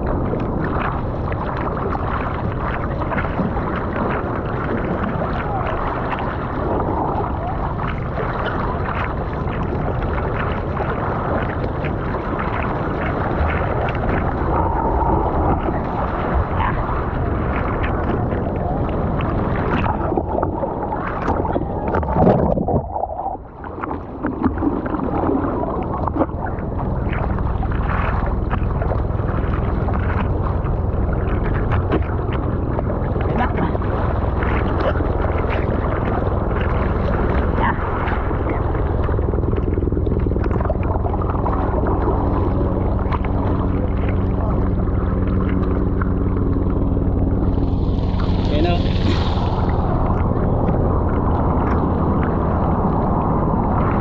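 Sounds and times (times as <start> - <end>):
water splashing from paddling: 0.0 - 54.0.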